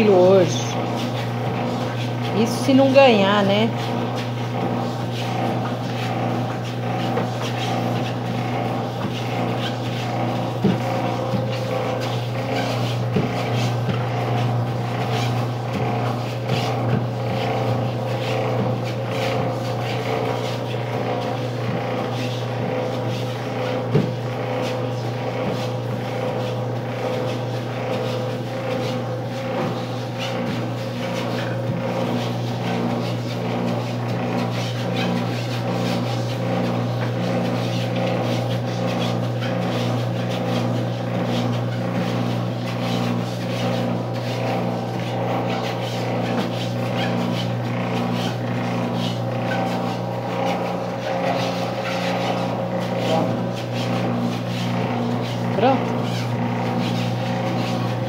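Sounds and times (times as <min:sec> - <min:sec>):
electric motor hum: 0:00.0 - 0:58.0.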